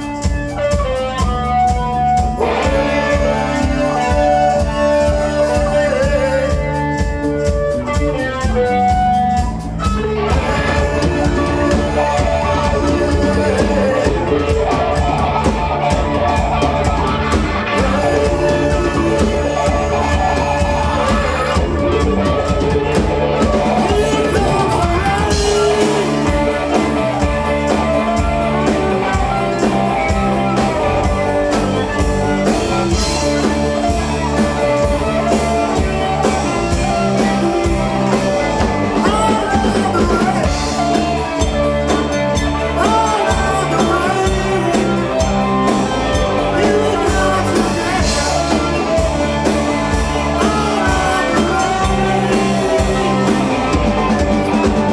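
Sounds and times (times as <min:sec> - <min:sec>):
drum kit beat: 0:00.0 - 0:54.9
rock guitars: 0:00.0 - 0:54.9.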